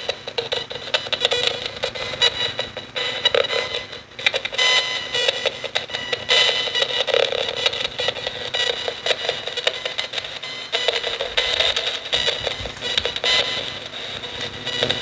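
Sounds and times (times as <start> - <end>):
clipped radio fragments: 0.0 - 15.0
radio static bursts: 0.0 - 15.0
steady electronic tone: 0.0 - 15.0.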